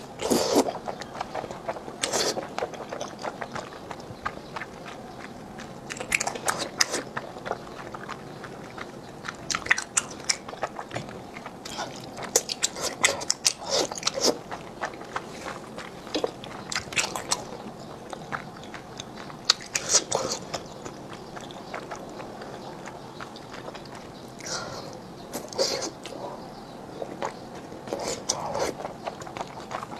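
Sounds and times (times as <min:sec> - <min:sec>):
mouth slurping and chewing noodles: 0:00.0 - 0:29.9.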